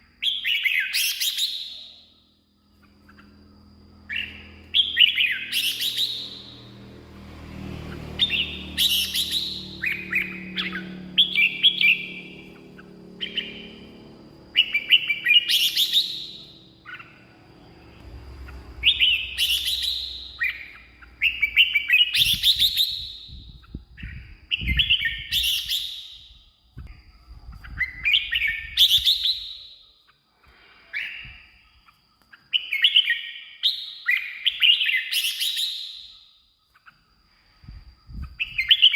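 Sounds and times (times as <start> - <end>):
bird singing warbling phrases: 2.8 - 6.9, 7.8 - 37.0.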